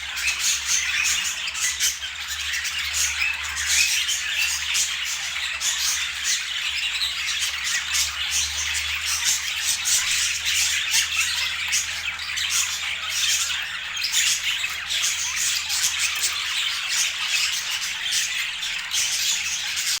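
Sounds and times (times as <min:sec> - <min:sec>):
budgerigars chattering and squawking: 0:00.0 - 0:20.0.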